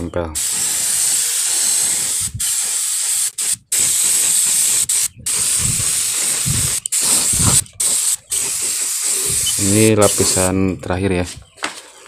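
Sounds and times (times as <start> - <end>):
paint spray gun hissing: 0.4 - 10.5.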